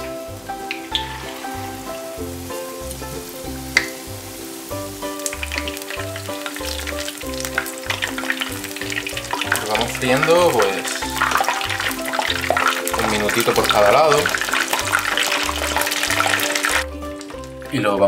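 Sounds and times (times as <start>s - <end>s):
fish frying in hot oil: 0.0s - 17.7s.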